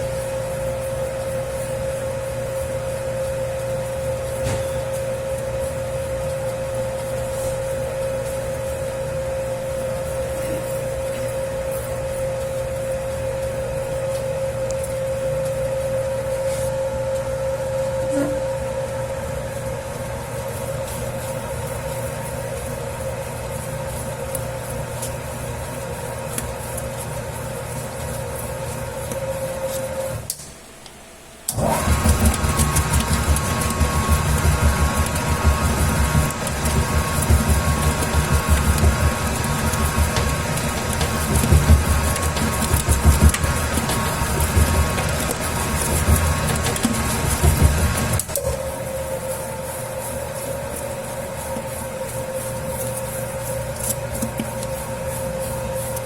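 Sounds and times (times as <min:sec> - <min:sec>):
dough mixer motor humming: 0:00.0 - 0:30.3, 0:31.5 - 0:56.0.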